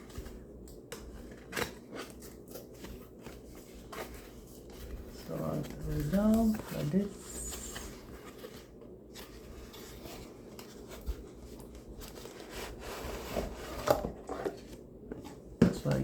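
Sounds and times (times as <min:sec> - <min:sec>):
rubbing and scraping of packaging: 0:00.0 - 0:16.0.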